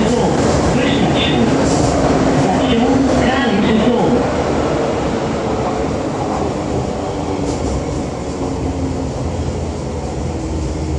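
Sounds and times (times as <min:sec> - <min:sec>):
rumble of wheels on rails: 0:00.0 - 0:10.9.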